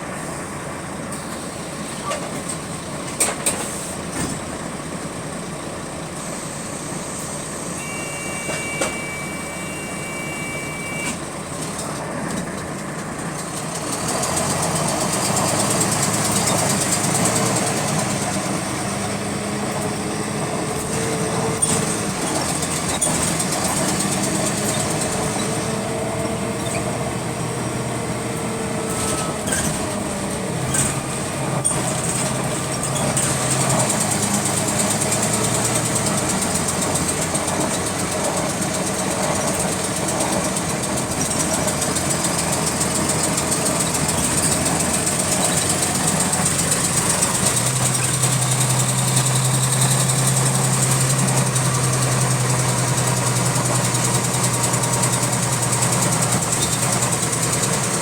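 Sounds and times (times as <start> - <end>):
bus engine running: 0.0 - 58.0
repetitive engine clicking: 11.6 - 58.0.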